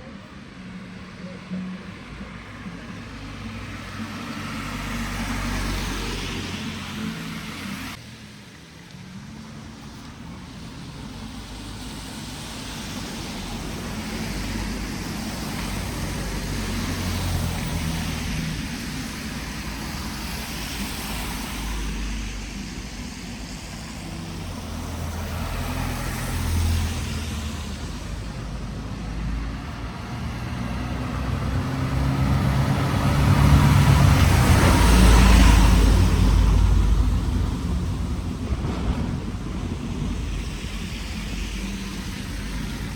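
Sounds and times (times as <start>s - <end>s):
road vehicle passing by: 0.0s - 42.9s.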